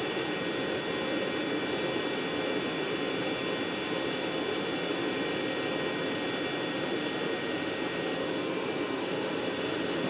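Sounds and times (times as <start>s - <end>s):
aircraft turbine whine: 0.0s - 10.0s.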